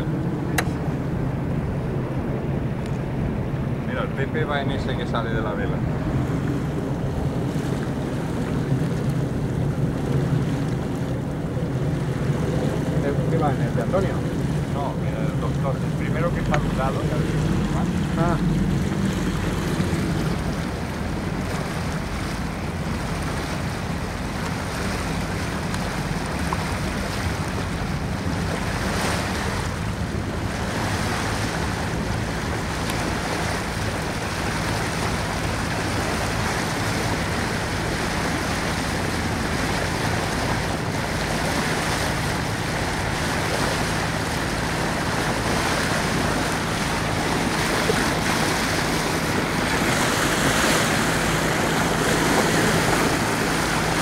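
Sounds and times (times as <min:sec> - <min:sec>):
boat engine hum: 0:00.0 - 0:54.0
water rushing past hull: 0:00.0 - 0:54.0
wind buffeting microphone: 0:00.0 - 0:54.0.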